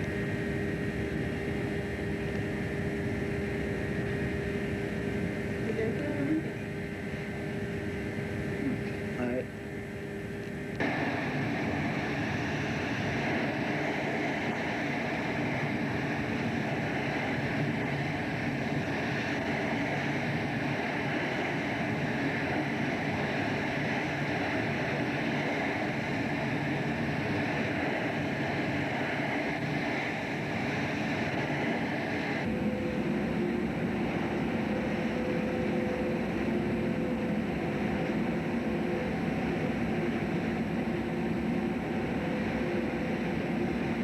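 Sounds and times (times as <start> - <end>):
wind: 0.0 - 44.0.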